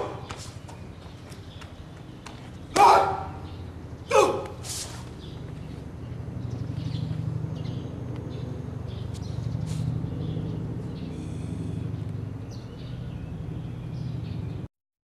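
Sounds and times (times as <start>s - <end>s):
steady low rumble: 0.0s - 14.7s.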